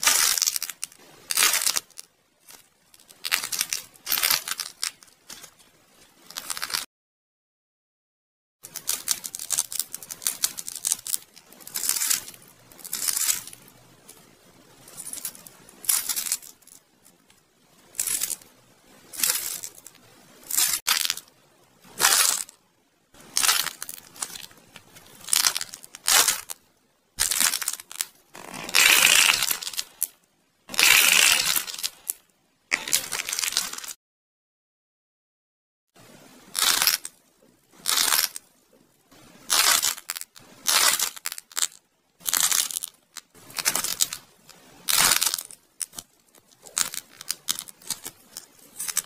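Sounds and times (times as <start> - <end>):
clay crunching and crackling: 0.0 - 6.9, 8.6 - 34.0, 36.4 - 49.0.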